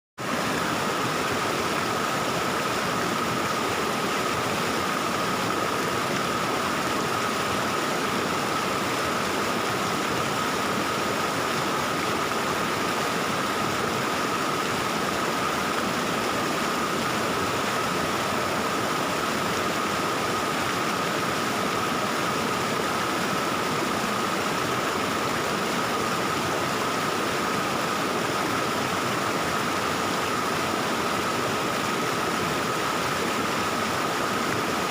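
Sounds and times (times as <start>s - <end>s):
stream water babbling: 0.2s - 34.9s.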